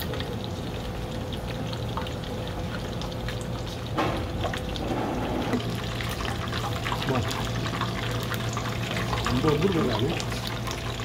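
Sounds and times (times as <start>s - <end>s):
hot oil crackling and sizzling: 0.0s - 11.0s.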